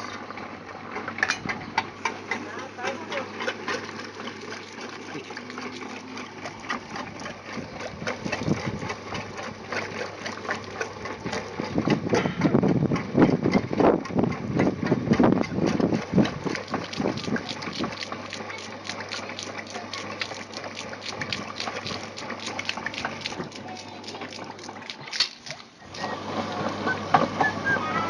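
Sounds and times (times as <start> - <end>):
water pump clattering: 0.0 - 28.0.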